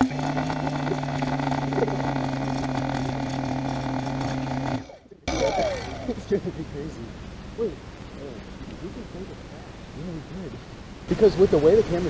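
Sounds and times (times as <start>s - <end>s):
drone motors humming: 0.0s - 10.1s.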